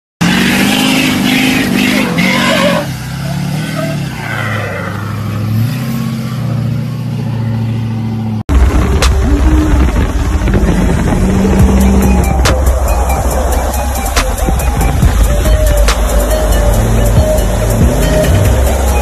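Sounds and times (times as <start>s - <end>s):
diesel engine revving hard: 0.2s - 19.0s.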